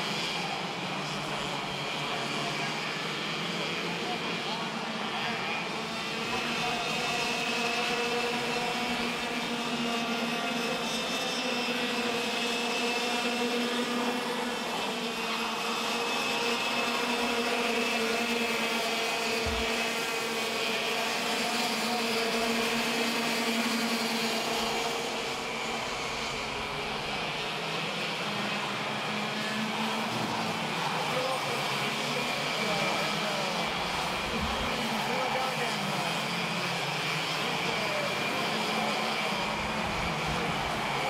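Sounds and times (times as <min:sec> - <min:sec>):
racing kart engines whining: 0:00.0 - 0:41.0.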